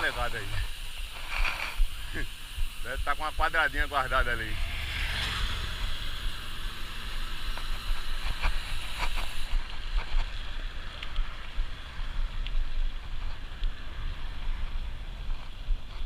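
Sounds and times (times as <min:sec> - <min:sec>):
bike clicks and rattles: 0:00.0 - 0:04.5, 0:05.7 - 0:16.0
wind rumbling on microphone: 0:00.0 - 0:16.0.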